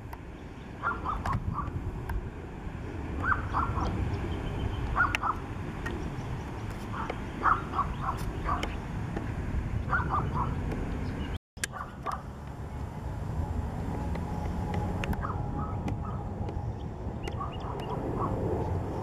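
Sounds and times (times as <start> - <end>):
distant jet airliner rumble: 0.0 - 19.0.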